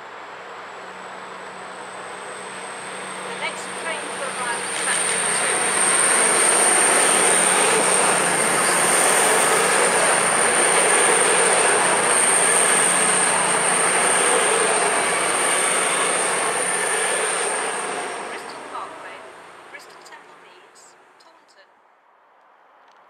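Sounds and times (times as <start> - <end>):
train running past: 0.0 - 21.2.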